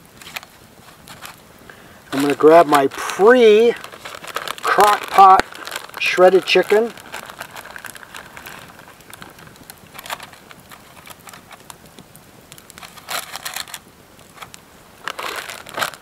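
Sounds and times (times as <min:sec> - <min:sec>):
plastic bag crinkling: 0:00.2 - 0:11.8, 0:12.6 - 0:16.0.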